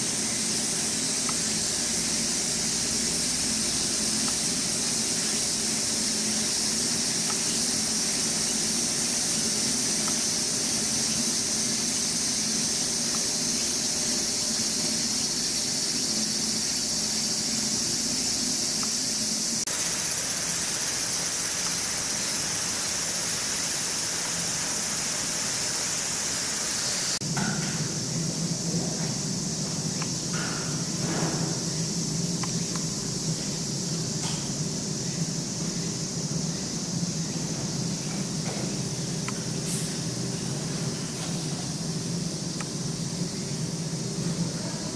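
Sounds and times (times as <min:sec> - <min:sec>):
shrill chorus of cicadas: 0:00.0 - 0:44.9.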